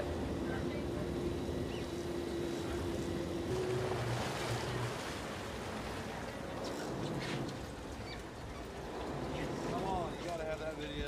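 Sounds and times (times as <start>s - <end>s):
wind and water rushing: 2.1s - 11.0s.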